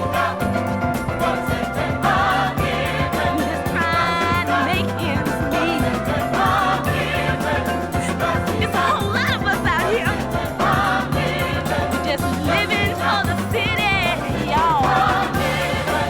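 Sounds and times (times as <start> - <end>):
band bass and rhythm section: 0.0 - 16.0
choir singing: 0.0 - 16.0.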